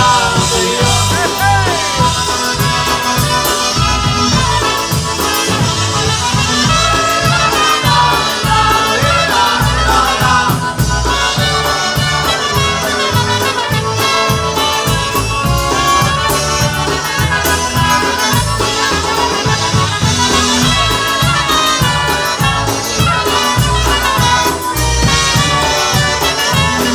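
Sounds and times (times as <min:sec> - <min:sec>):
polka band playing: 0:00.0 - 0:26.9.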